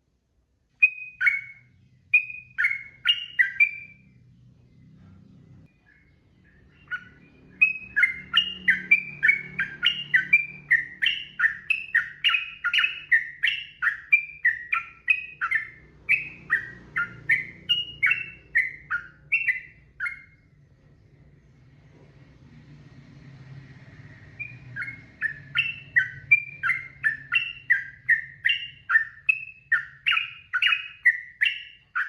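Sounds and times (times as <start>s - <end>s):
faint low hum: 0.0s - 32.0s
bird singing whistled notes: 0.8s - 4.3s, 5.7s - 20.8s, 23.5s - 32.0s.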